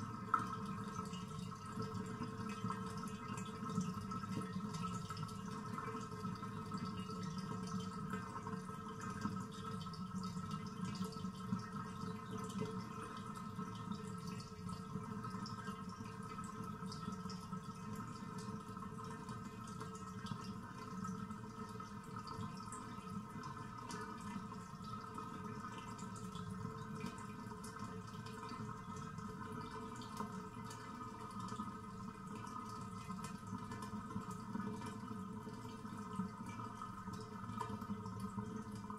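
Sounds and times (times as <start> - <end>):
water draining down bathtub drain: 0.0 - 38.9
water drips and trickles: 0.0 - 38.9.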